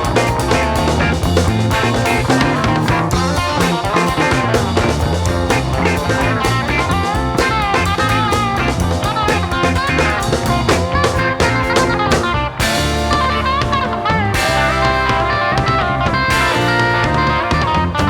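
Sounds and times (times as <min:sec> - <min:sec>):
bass guitar: 0:00.0 - 0:18.0
drums: 0:00.0 - 0:18.0
lead guitar bending notes: 0:00.0 - 0:18.0.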